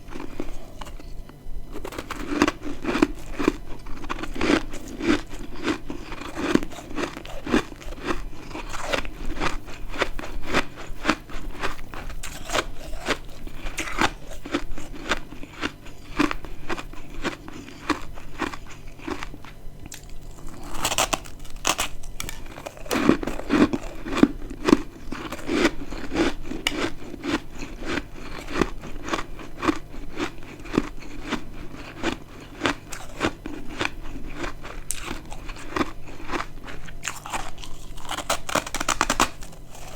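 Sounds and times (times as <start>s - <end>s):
crunching frost chunks: 1.7s - 39.9s.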